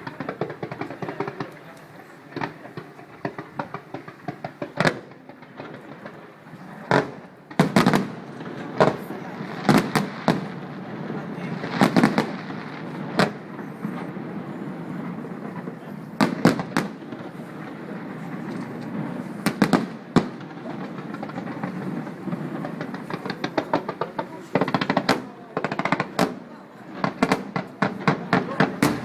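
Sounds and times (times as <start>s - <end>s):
crowd murmur: 0.0s - 29.0s
fireworks banging and crackling: 0.0s - 29.0s.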